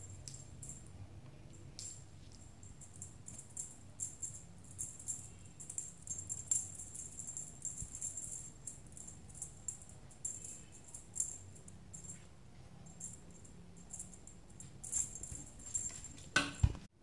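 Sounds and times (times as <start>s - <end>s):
small jingle bell shaken: 1.8s - 16.3s.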